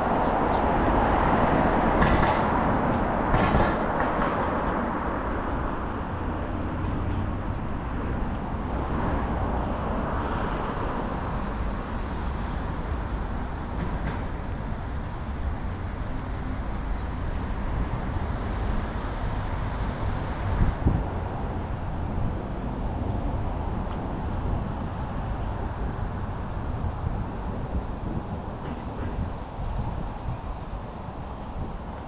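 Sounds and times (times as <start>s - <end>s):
traffic noise with deep rumble: 0.0s - 32.0s.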